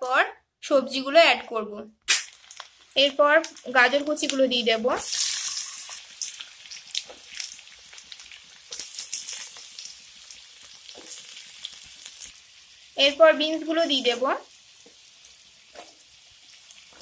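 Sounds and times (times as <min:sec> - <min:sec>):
vegetables sizzling in hot oil: 0:02.1 - 0:17.0.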